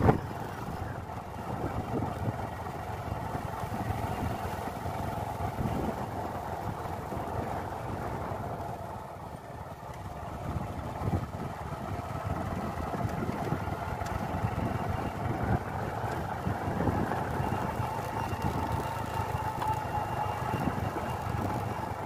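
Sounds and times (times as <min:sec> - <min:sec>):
road noise: 0:00.0 - 0:22.0
vehicle engine driving: 0:00.0 - 0:22.0.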